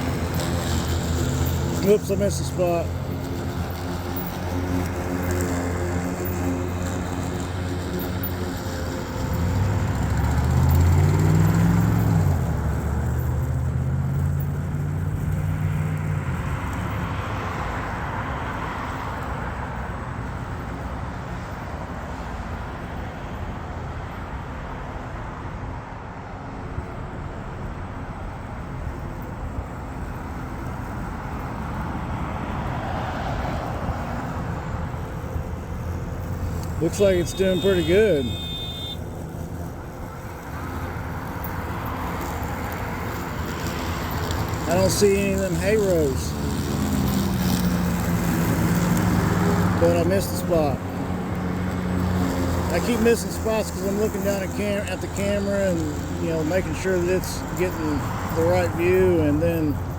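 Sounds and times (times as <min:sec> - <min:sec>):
vehicle engine pulling away: 0:00.0 - 0:18.2, 0:29.8 - 0:59.9
cars rushing past: 0:00.0 - 0:59.9.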